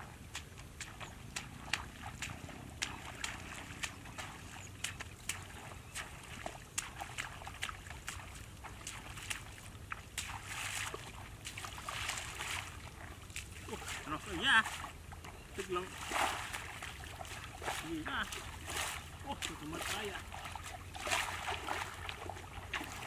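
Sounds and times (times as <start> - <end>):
footsteps wading through water: 0.0 - 23.0.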